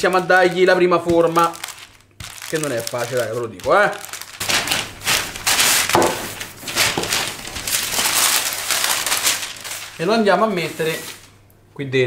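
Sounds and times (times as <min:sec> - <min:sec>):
pastry dough crackling under rolling pin: 0:00.0 - 0:11.3.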